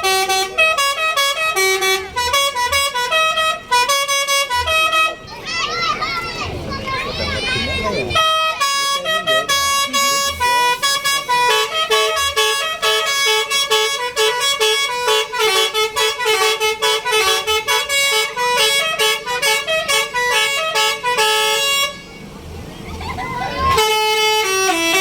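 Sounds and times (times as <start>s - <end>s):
bus multi-tone horn tune: 0.0s - 5.7s, 6.3s - 25.0s.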